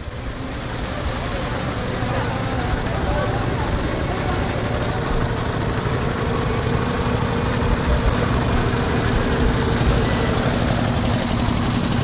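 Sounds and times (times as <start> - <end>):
engine droning: 0.0 - 12.0
shallow water rushing: 0.0 - 12.0.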